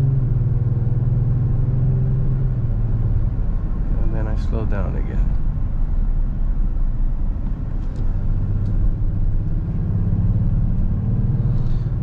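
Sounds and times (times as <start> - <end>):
car cabin road noise: 0.0 - 12.0
engine hum: 0.0 - 12.0.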